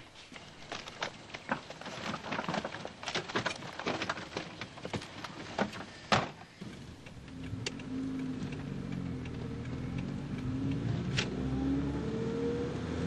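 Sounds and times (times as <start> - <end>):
clattering clicks and knocks: 0.6 - 11.3.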